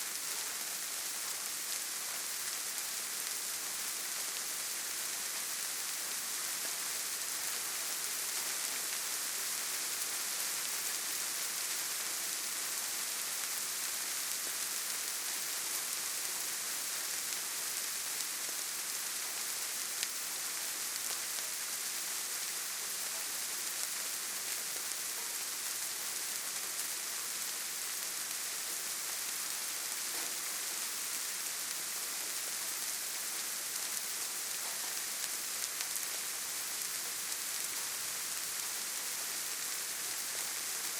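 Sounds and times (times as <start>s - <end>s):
light rain pattering on leaves: 0.0s - 40.9s.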